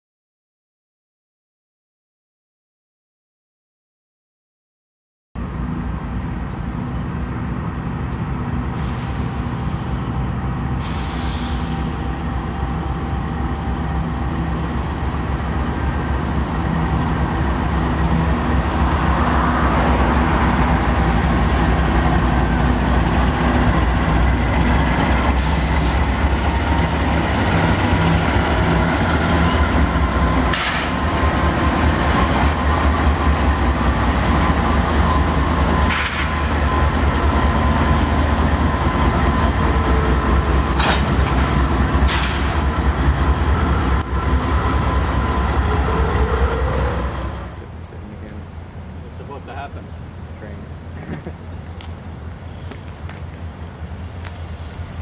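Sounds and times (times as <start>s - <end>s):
diesel locomotive engines rumbling: 5.4s - 55.0s.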